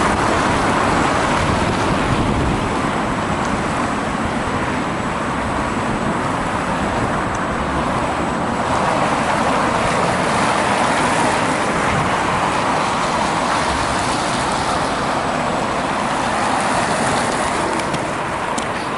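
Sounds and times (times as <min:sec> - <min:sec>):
rushing road and wind noise: 0:00.0 - 0:18.9.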